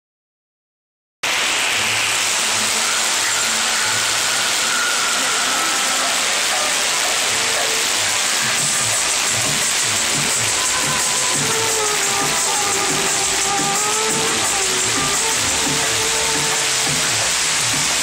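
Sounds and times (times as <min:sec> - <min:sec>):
rain on wet pavement and tarps: 0:01.2 - 0:18.0.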